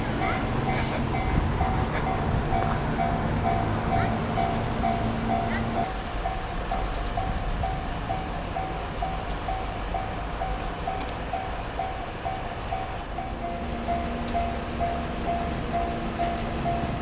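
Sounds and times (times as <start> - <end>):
low rumble of idling traffic: 0.0 - 17.0.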